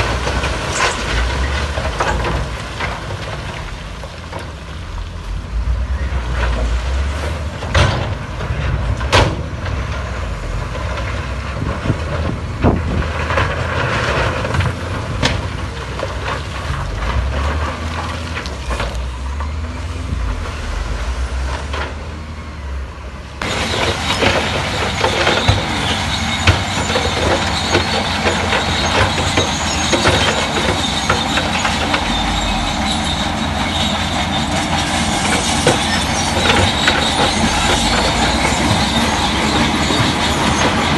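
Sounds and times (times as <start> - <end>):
steel tracks clattering on rock: 0.0 - 5.6, 6.2 - 19.5, 23.4 - 40.9
diesel engine running: 0.0 - 40.9.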